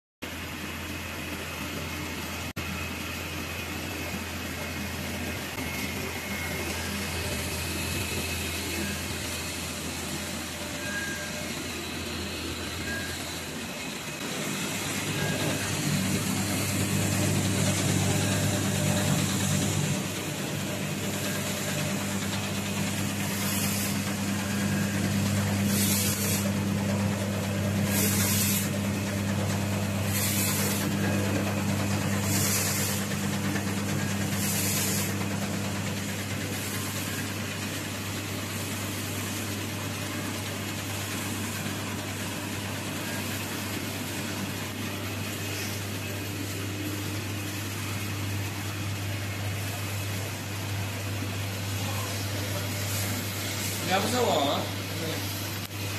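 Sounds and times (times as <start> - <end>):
low machine hum: 0.2 - 55.9.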